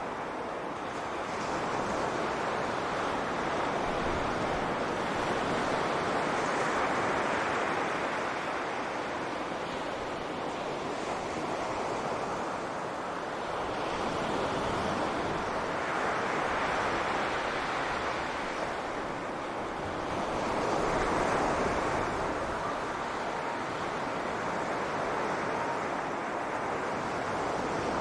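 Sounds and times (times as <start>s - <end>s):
waves breaking on beach: 0.0s - 28.0s
wind on microphone: 0.0s - 28.0s.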